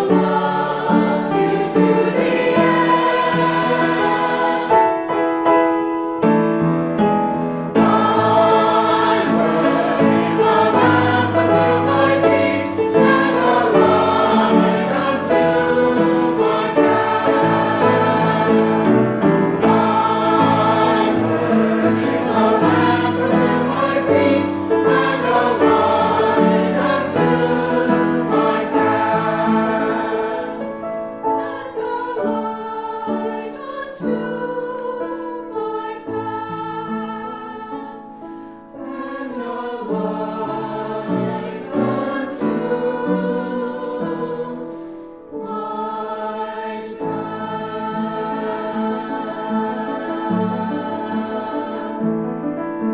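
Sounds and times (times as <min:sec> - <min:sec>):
choir singing a hymn: 0:00.0 - 0:52.9.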